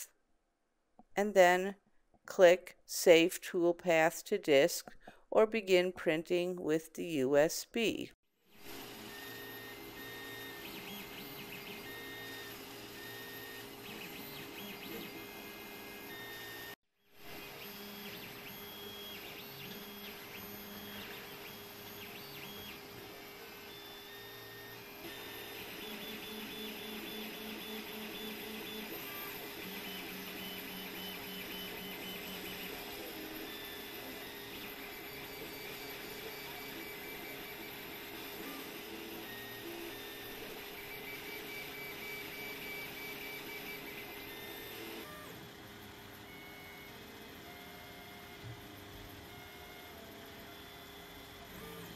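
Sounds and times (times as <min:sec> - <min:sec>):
stepper motors whining: 0:08.8 - 0:51.9.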